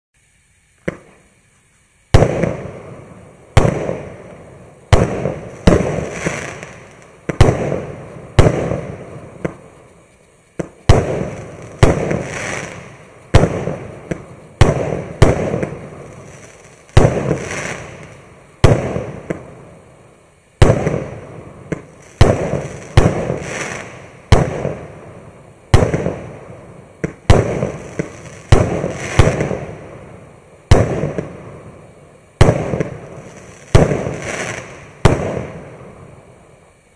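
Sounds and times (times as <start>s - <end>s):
fireworks bangs with crackle: 0.8s - 1.3s, 2.1s - 36.9s.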